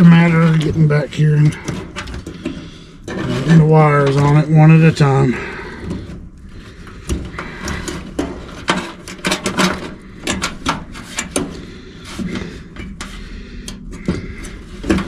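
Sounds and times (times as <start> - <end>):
clicks taps and scrapes on wires: 0.0 - 4.5, 6.8 - 15.0.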